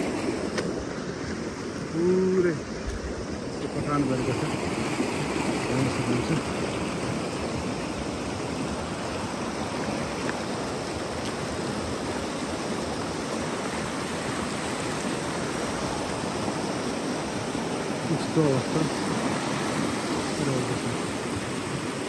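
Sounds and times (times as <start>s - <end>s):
whitewater rushing over rocks: 0.0s - 22.0s.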